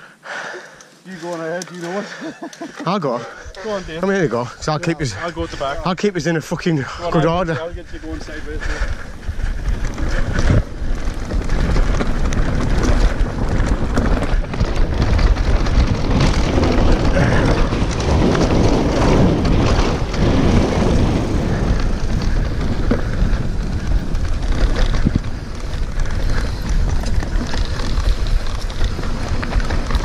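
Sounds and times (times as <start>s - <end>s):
bike tyres rattling over stones: 0.3s - 30.0s
wind buffeting microphone: 3.0s - 30.0s.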